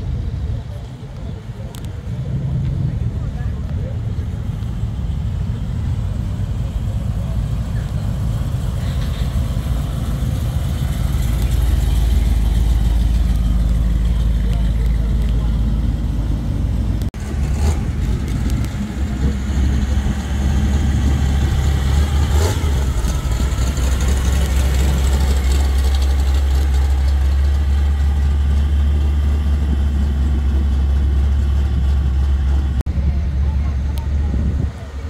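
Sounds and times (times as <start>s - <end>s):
pickup truck engine rumbling: 0.0s - 35.0s.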